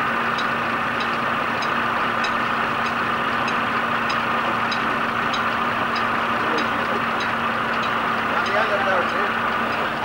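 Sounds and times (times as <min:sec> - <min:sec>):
threshing machine humming: 0:00.0 - 0:10.0
light regular ticking: 0:00.2 - 0:10.0.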